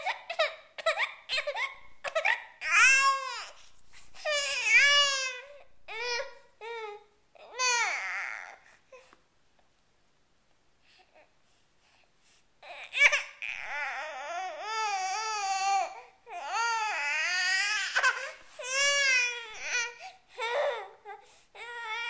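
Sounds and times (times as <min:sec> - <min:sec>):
baby wailing: 0:00.0 - 0:08.6, 0:12.6 - 0:22.0.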